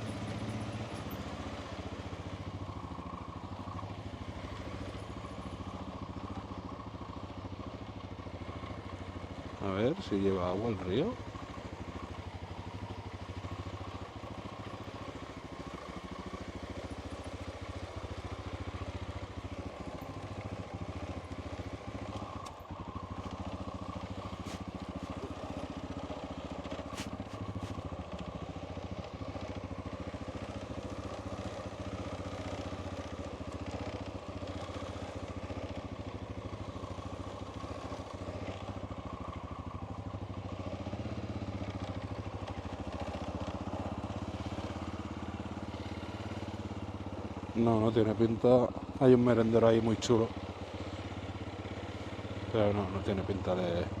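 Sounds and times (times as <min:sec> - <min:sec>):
motorcycle engine running at low revs: 0:00.0 - 0:54.0.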